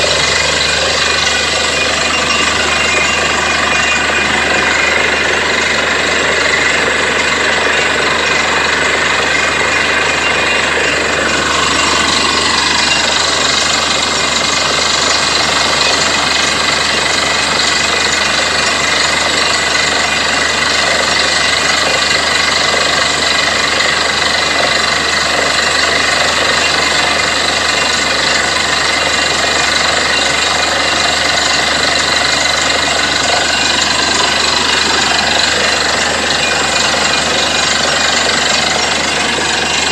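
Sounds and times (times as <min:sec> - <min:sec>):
drilling rig engine and hammering: 0:00.0 - 0:39.9.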